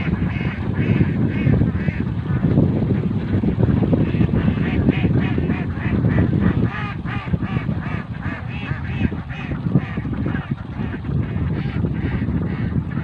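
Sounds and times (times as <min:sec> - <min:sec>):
ducks quacking: 0:00.0 - 0:13.0
wind rumble on microphone: 0:00.0 - 0:13.0.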